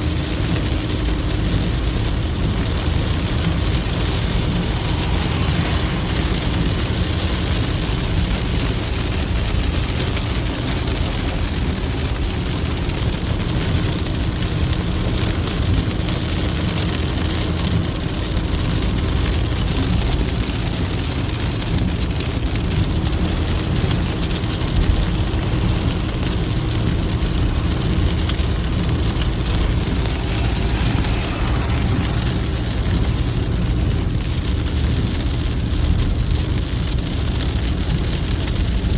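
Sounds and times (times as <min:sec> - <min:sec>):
heavy rain on car: 0:00.0 - 0:38.9
tyre and engine noise: 0:00.0 - 0:38.9.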